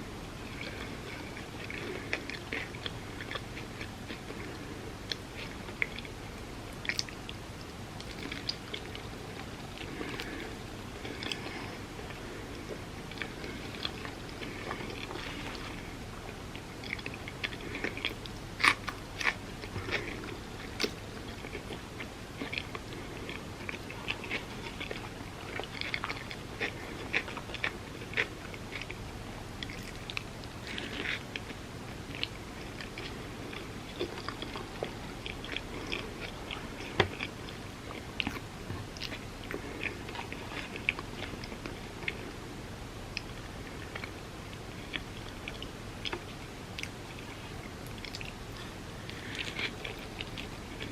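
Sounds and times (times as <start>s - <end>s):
chewing crunchy toast: 0.4s - 42.5s, 43.1s - 50.9s.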